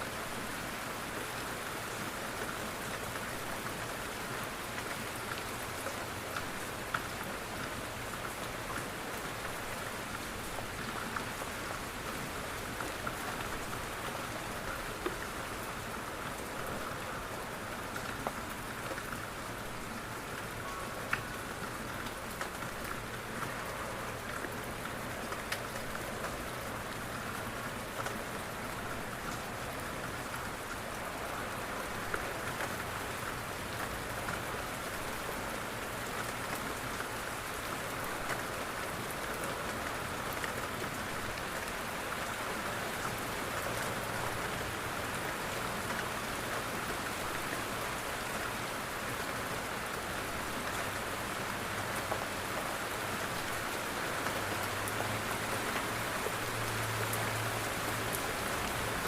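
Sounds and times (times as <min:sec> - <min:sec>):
rain drops on window: 0:00.0 - 0:59.0
steady rain: 0:00.0 - 0:59.0.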